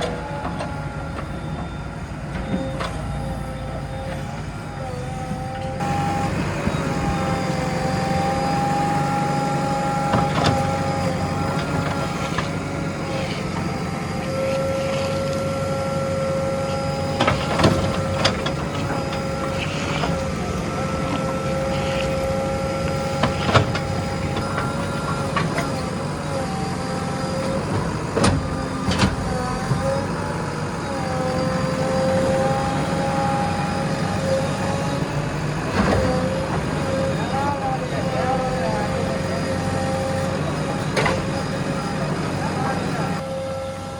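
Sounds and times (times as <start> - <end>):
backhoe diesel engine humming: 0.0 - 43.9.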